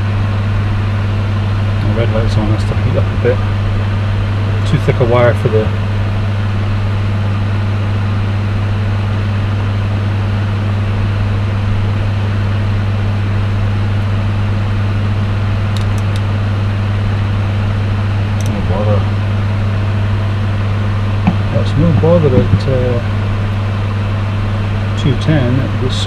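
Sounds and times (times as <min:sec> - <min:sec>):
loud low hum: 0:00.0 - 0:26.0.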